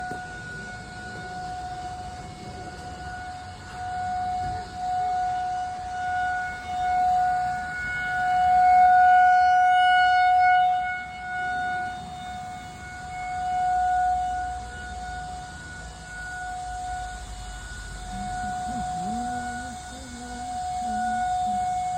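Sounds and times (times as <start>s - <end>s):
tornado warning siren: 0.0s - 21.9s.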